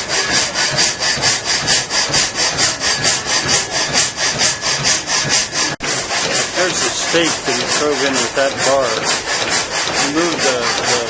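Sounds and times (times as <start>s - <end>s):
frame saw rasping through log: 0.0s - 11.0s.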